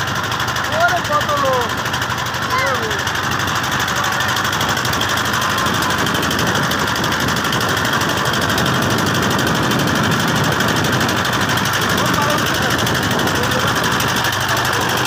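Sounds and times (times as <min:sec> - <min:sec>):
motor boat engine chugging: 0:00.0 - 0:15.0.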